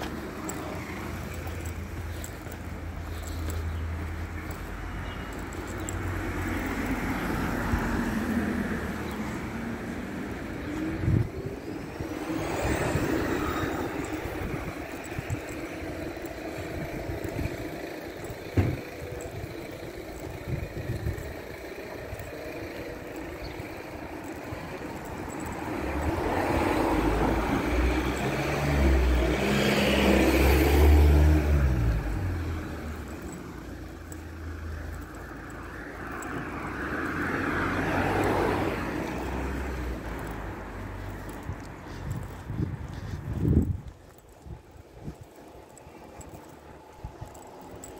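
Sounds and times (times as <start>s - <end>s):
vehicle passing by: 0.0s - 17.4s, 20.4s - 44.4s.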